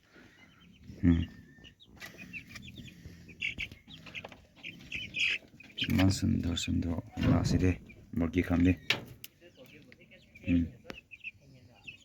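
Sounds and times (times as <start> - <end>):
chickens clucking and chirping: 0.0 - 12.0.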